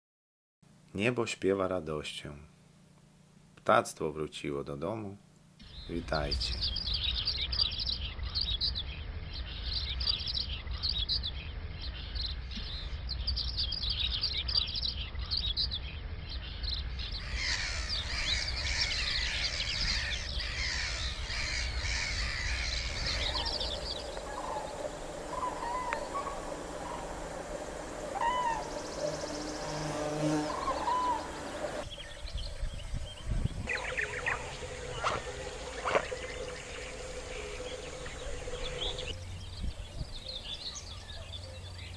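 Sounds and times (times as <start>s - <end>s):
birds chirping and singing: 5.6s - 41.9s
lower rising and falling bird calls: 5.6s - 41.9s.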